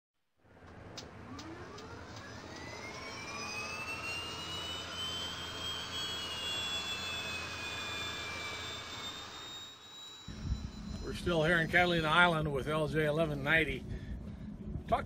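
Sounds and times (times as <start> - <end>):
jet flyby rushing and whining: 0.5 - 14.6.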